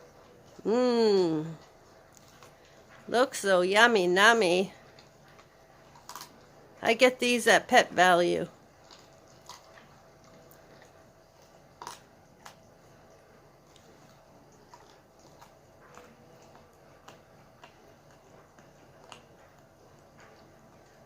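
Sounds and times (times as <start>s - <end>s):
dog chewing and crunching: 0.0s - 21.0s.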